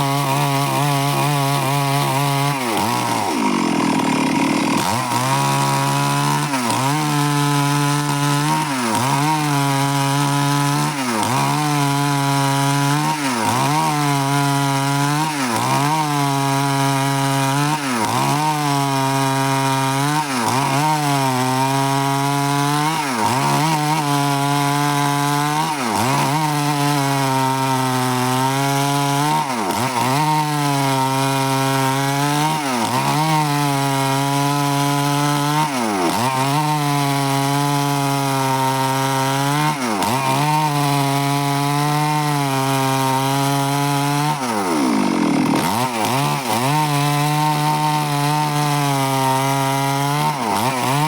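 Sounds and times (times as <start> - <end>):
chainsaw cutting wood: 0.0 - 51.0.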